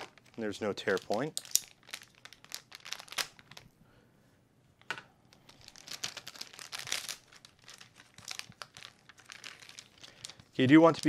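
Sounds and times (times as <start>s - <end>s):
plastic bag crinkling: 0.0s - 3.7s, 5.3s - 11.0s.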